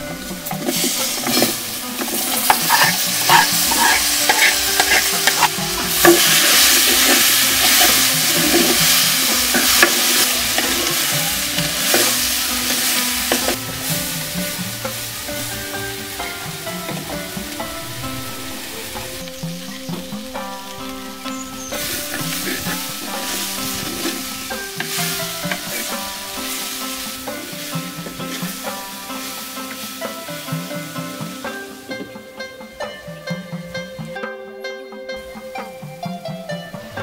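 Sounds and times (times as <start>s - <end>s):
food sizzling in a pot: 0.0s - 32.2s
wooden spoon scraping a pot: 0.5s - 30.2s.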